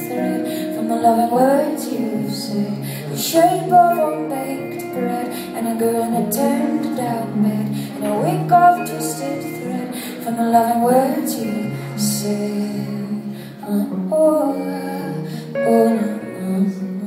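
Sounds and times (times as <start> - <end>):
guitar playing: 0.0 - 17.0
woman singing: 0.0 - 17.0.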